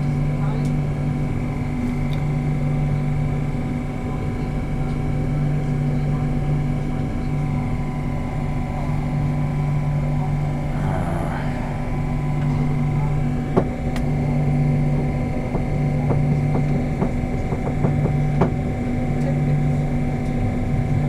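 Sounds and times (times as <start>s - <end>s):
thin steady whine: 0.0s - 21.0s
train hum and rumble: 0.0s - 21.0s.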